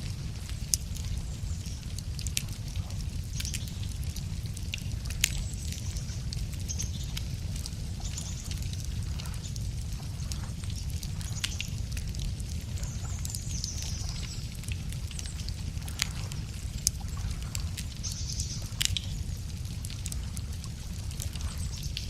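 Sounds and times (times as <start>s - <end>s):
campfire crackling and popping: 0.0s - 22.0s
low rumble of fire: 0.0s - 22.0s.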